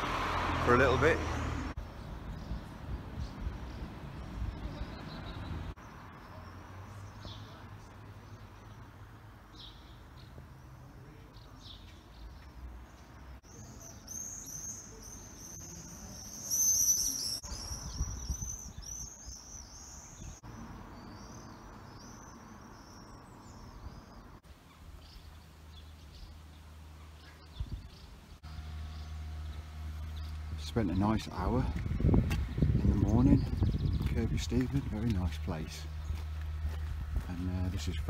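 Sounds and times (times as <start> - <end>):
birds chirping rapidly: 0.0 - 38.0.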